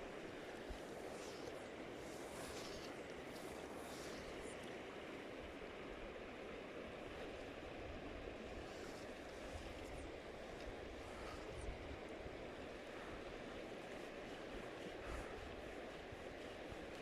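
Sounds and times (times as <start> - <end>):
river current rushing: 0.0 - 17.0.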